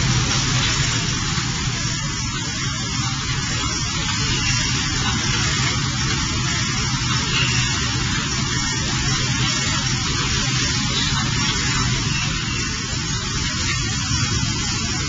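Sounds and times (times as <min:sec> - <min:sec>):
laser cleaning hiss: 0:00.0 - 0:15.0.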